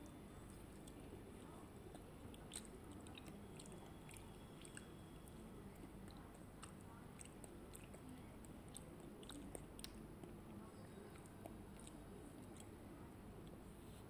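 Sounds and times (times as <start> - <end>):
faint chewing: 0.0 - 14.0.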